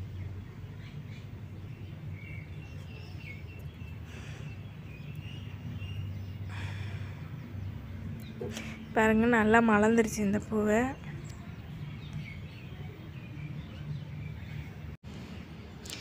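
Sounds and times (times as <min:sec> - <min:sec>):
low steady rumble: 0:00.0 - 0:15.8.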